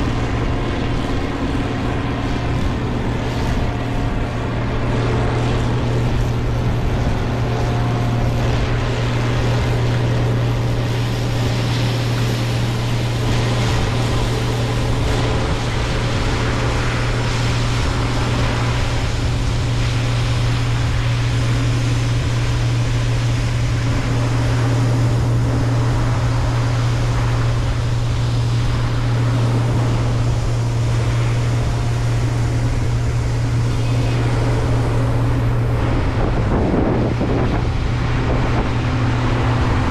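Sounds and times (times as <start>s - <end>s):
diesel machinery engine drone: 0.0s - 39.9s
steady tones: 0.0s - 39.9s.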